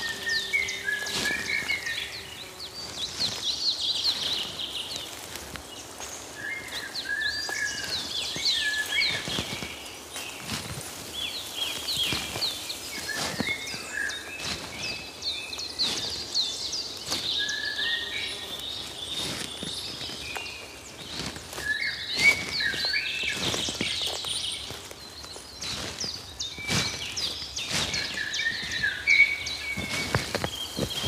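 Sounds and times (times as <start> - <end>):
birds chirping and calling: 0.0 - 31.0.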